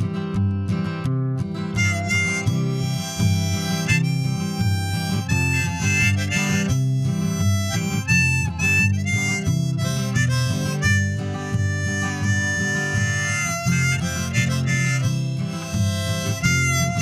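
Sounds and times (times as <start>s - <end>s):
acoustic guitar strumming: 0.0s - 17.0s
harmonica melody: 1.6s - 17.0s.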